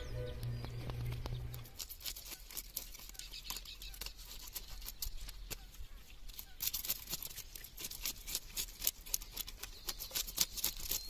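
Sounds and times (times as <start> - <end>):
knife scraping fish scales: 1.5 - 11.0.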